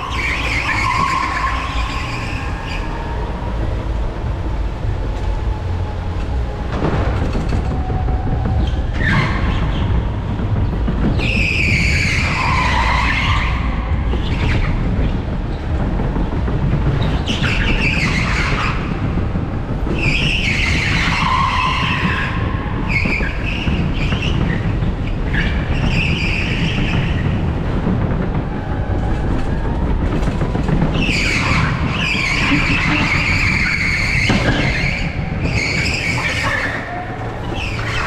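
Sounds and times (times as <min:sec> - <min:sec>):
go-kart tyres squealing: 0:00.0 - 0:38.0
low rumble of kart running: 0:00.0 - 0:38.0.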